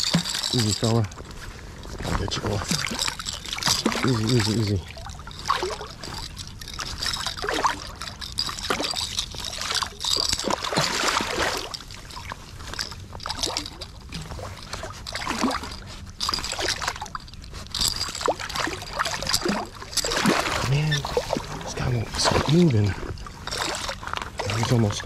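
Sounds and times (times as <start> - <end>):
fish thrashing in splashing water: 2.3 - 25.0.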